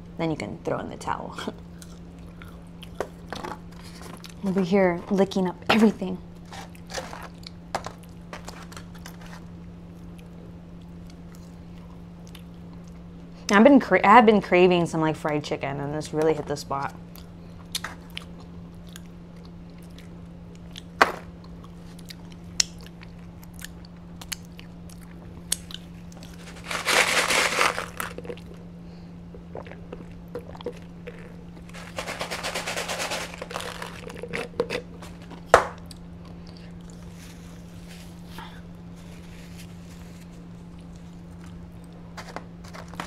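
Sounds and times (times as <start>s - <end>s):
steady low hum: 0.0s - 43.0s
chewing and crunching: 1.5s - 4.5s, 6.4s - 13.1s, 17.1s - 28.7s, 29.3s - 43.0s.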